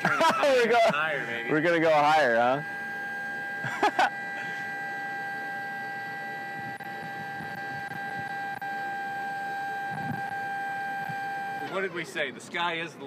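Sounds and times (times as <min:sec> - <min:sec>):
hoist whining: 0:00.0 - 0:12.1.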